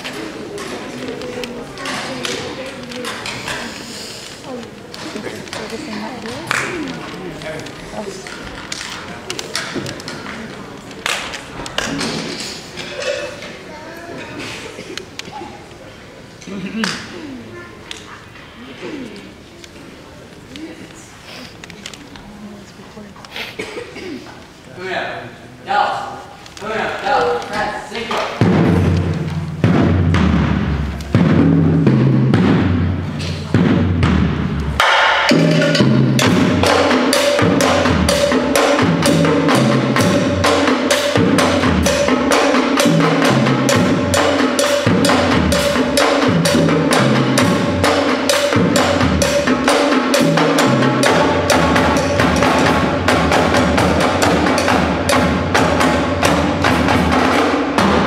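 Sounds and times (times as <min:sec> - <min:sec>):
tenor drums: 0:00.0 - 0:22.4, 0:25.6 - 0:58.0.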